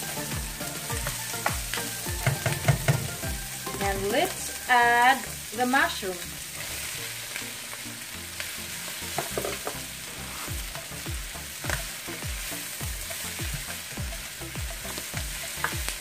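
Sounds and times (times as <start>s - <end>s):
mushrooms sizzling in a pan: 0.0s - 16.0s.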